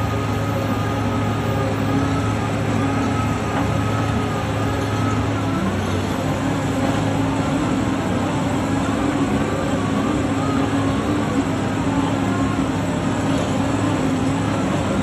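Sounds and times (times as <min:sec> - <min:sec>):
construction machinery engine drone: 0:00.0 - 0:15.0.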